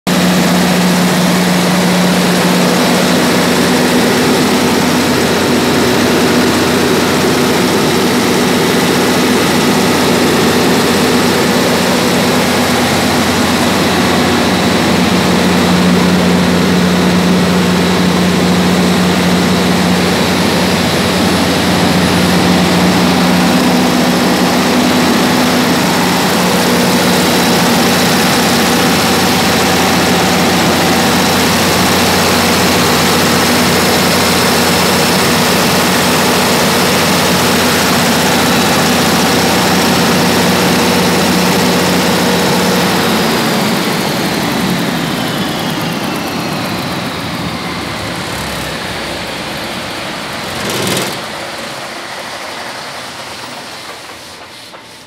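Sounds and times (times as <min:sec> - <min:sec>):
diesel generator droning: 0:00.1 - 0:55.0.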